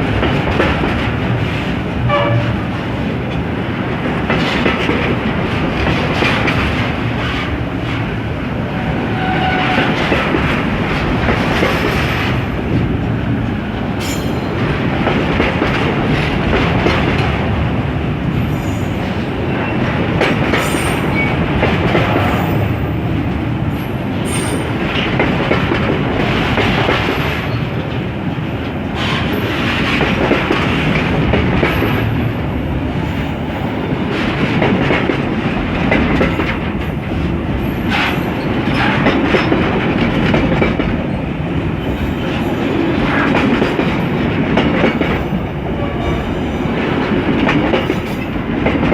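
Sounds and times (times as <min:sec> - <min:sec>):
train wheels clattering over rails: 0:00.0 - 0:48.9.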